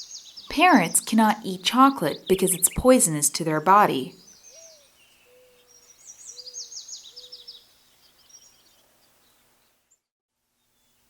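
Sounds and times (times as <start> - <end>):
birds chirping: 0.0 - 9.5.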